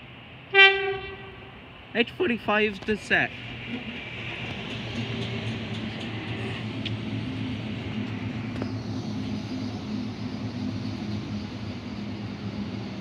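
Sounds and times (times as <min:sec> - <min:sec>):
train hum and rumble: 0:00.0 - 0:13.0.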